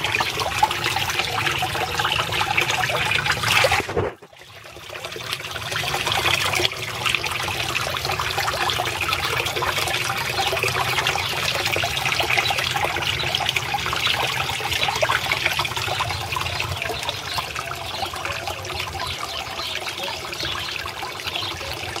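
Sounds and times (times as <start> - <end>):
water splashing into pond: 0.0 - 22.0.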